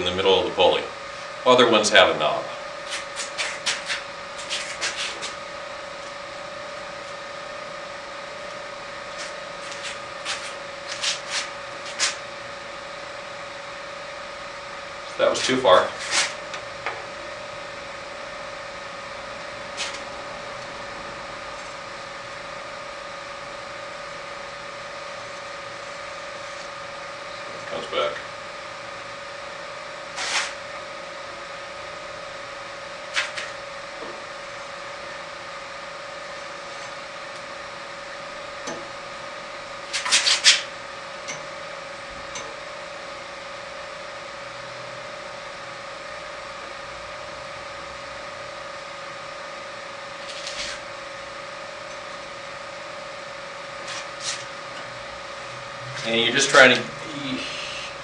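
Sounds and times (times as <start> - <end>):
background hum: 0.0 - 58.0.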